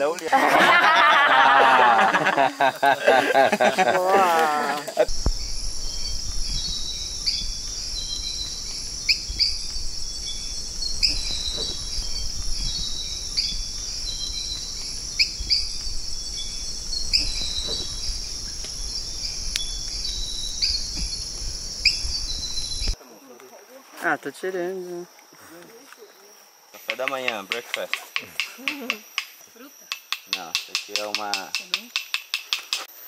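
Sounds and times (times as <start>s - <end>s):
frogs chirping: 0.0s - 33.0s
insect chorus of crickets: 0.0s - 33.0s.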